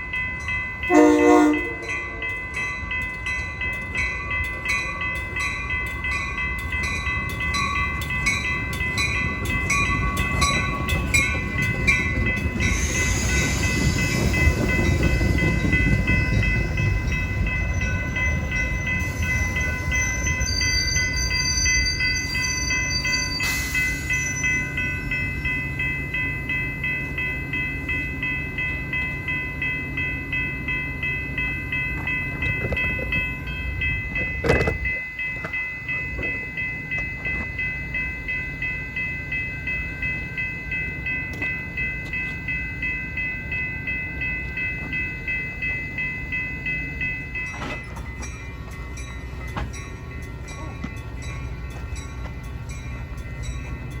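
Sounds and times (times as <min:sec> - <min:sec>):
bell ringing steadily: 0:00.0 - 0:54.0
train passing rumble: 0:00.0 - 0:54.0.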